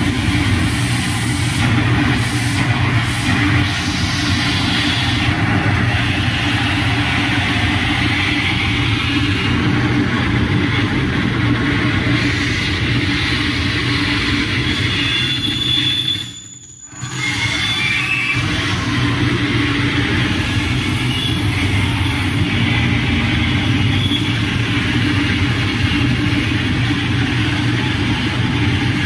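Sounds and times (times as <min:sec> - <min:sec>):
steady low drone: 0:00.0 - 0:15.8, 0:17.1 - 0:29.0
distorted electronic noise: 0:00.0 - 0:29.0.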